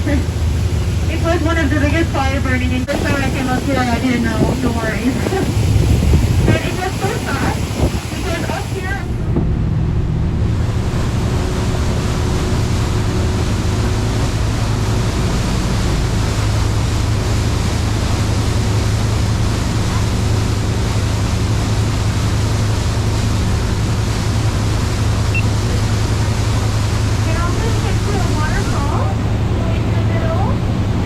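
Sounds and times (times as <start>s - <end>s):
boat engine humming: 0.0s - 31.0s
wind and water rushing: 0.0s - 31.0s.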